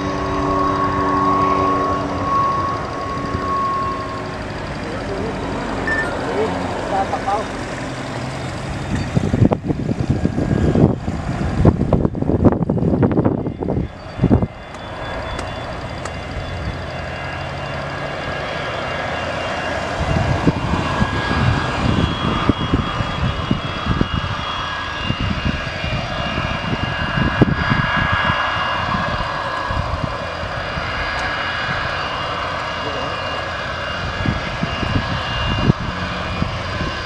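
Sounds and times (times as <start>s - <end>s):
jet engine turbine whine: 0.0s - 37.0s.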